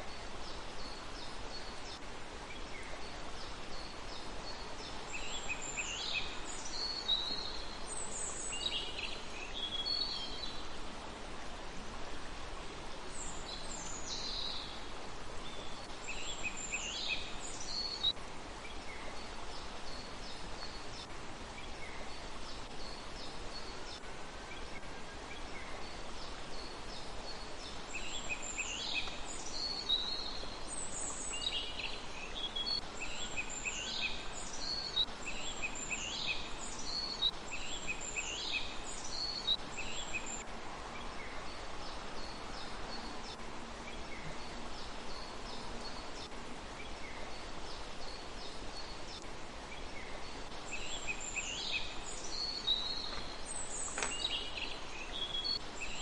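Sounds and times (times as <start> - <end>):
songbirds singing: 0.0 - 56.0
steady background hiss: 0.0 - 56.0.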